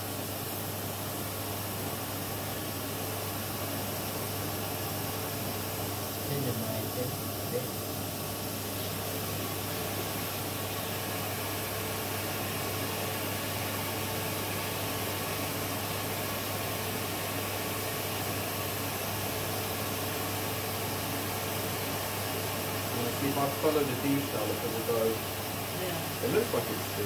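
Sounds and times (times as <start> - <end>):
vacuum drawing air: 0.0 - 19.2, 21.6 - 27.0.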